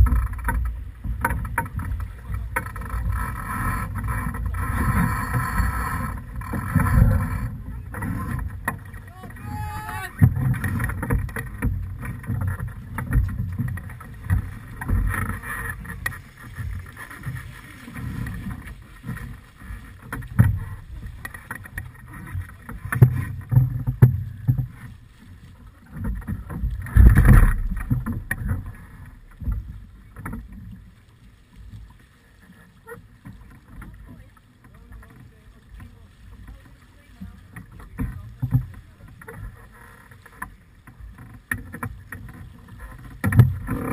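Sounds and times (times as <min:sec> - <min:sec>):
water rushing along hull: 0:00.0 - 0:43.9.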